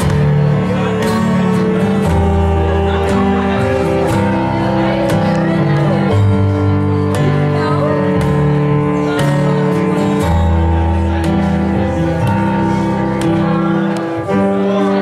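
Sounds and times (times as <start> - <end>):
held chords: 0.0 - 15.0
plucked string notes: 0.0 - 15.0.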